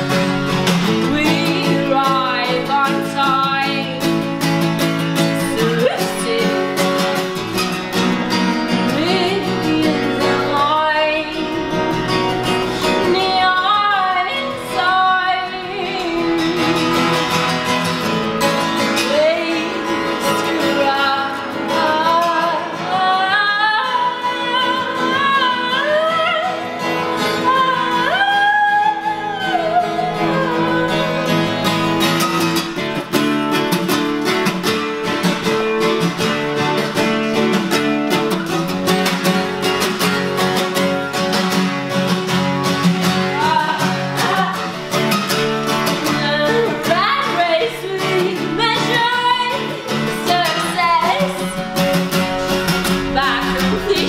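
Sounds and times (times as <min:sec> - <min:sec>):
woman singing: 0:00.0 - 0:32.8, 0:43.0 - 0:54.0
acoustic guitar strumming: 0:00.0 - 0:54.0.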